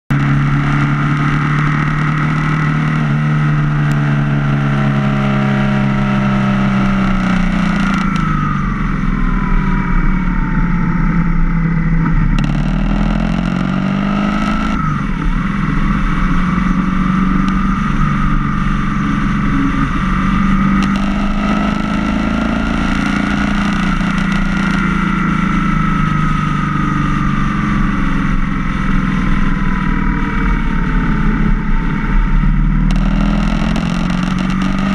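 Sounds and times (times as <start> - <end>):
motorcycle engine revving: 0.1 - 34.9
wind and road noise: 0.1 - 34.9.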